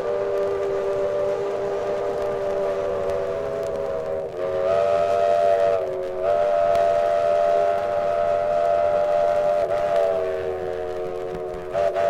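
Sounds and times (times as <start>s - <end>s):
steam locomotive chime whistle: 0.0s - 12.0s.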